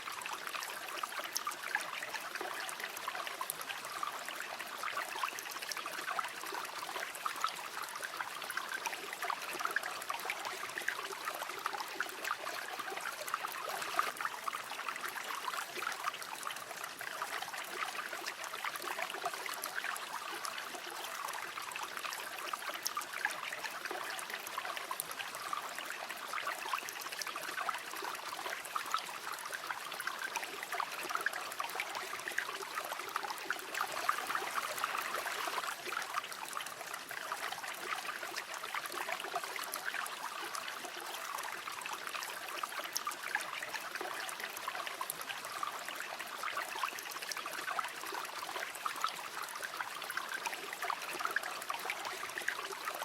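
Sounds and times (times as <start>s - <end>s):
river flowing over stones: 9.9s - 53.0s.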